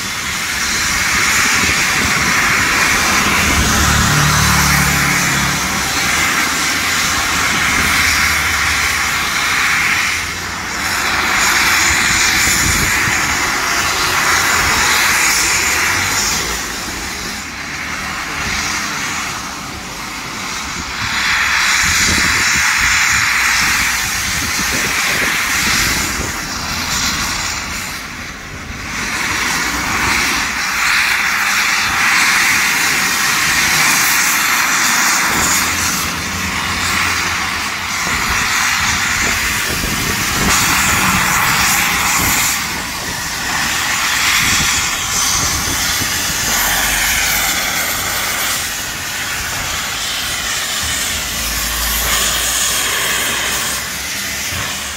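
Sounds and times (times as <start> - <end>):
steam locomotive hissing: 0.0 - 54.9.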